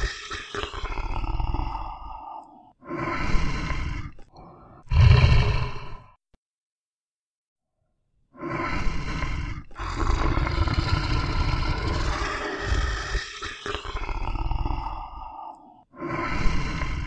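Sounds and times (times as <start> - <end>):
bear growling: 0.6 - 6.1, 8.4 - 17.0.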